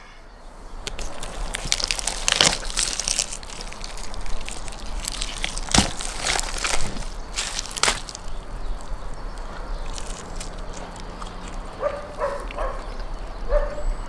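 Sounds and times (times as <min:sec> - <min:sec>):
crackling roast skin tearing: 0:00.8 - 0:13.2.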